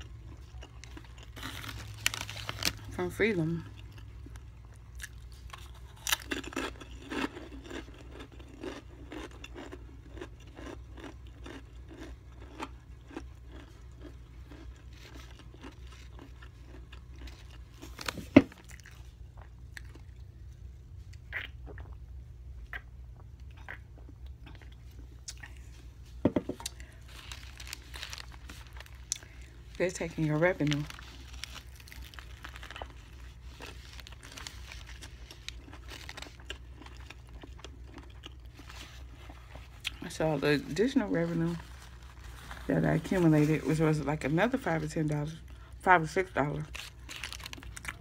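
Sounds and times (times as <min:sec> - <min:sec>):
potato chip crunching: 0:00.0 - 0:20.3, 0:26.6 - 0:48.0
steady low hum: 0:00.0 - 0:48.0.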